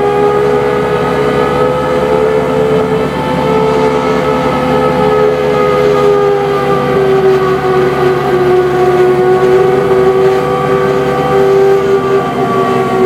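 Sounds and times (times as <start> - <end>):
hydraulic drive whine: 0.0 - 13.0
locomotive engine pulling hard: 0.0 - 13.0.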